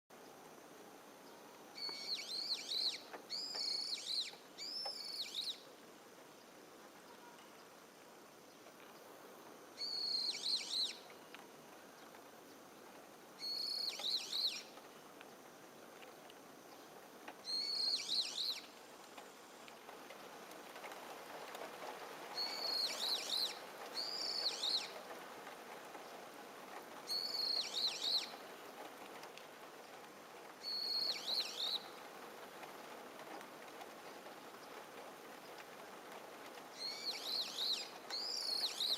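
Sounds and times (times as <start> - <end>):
faint steady hiss: 0.1 - 38.9.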